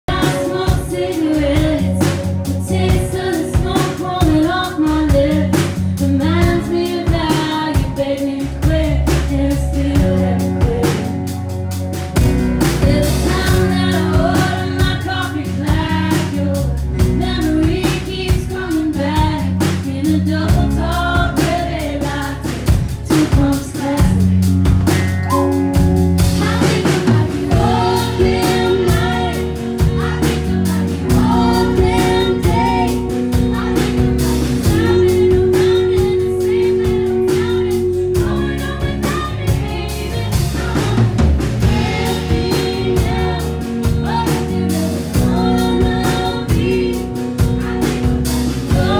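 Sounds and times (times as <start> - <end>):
woman singing: 0.0 - 11.5, 12.7 - 24.5, 25.4 - 48.9
drum kit: 0.0 - 48.9
electric guitar: 0.0 - 48.9.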